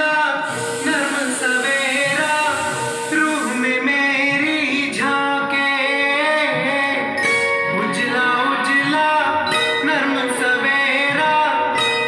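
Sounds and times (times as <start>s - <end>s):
vinyl record music with singing: 0.0s - 12.0s.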